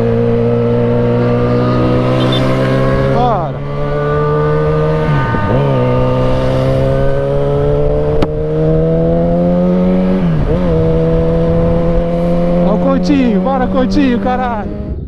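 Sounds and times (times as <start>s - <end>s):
motorcycle engine accelerating: 0.0s - 15.0s
rushing wind: 0.0s - 15.0s.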